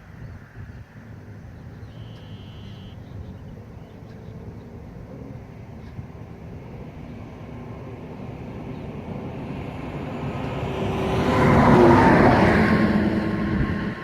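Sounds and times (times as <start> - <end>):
motor vehicle passing: 2.8 - 14.0.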